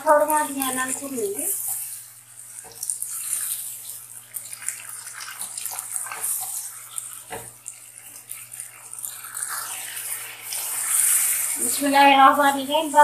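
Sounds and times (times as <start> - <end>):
vegetables sizzling in a pan: 0.0 - 13.0
spatula scraping a pan: 0.8 - 12.6.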